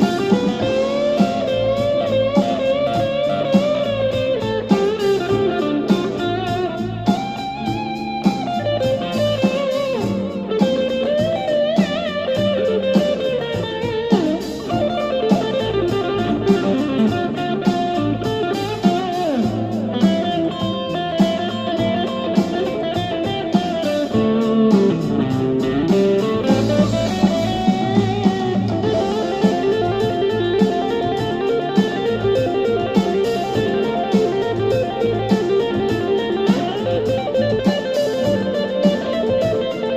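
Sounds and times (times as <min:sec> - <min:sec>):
blues backing track: 0:00.0 - 0:39.9
electric guitar blues solo: 0:00.0 - 0:39.9.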